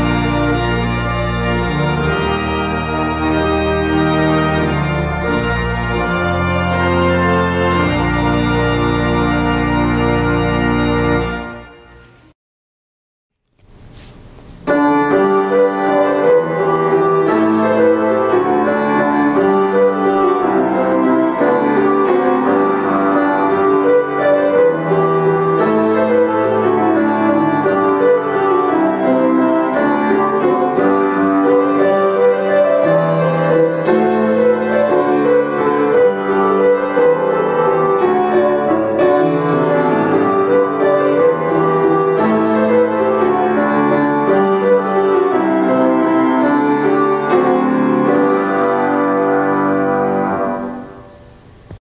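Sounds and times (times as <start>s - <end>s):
church organ chord: 0.0s - 12.3s, 14.6s - 51.7s
keyboard piano piece: 0.0s - 12.4s, 13.5s - 51.8s.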